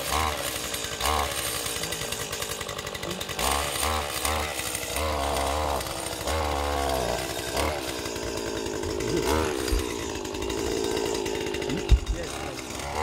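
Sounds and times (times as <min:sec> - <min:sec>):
small petrol engine revving: 0:00.0 - 0:13.0.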